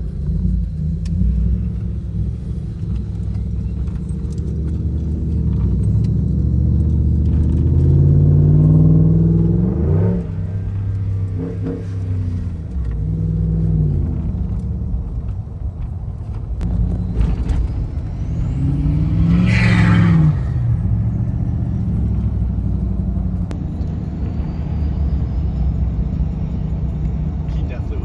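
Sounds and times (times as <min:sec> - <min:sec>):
pickup truck engine revving: 0:00.0 - 0:28.0.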